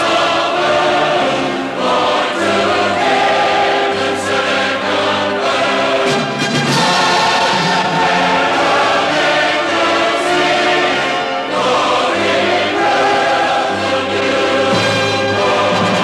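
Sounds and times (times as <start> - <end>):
choir singing with accompaniment: 0.0 - 16.0.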